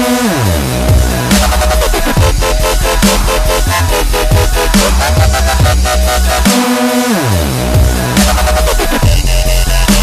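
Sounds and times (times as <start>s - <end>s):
dubstep electronic music: 0.0s - 10.0s.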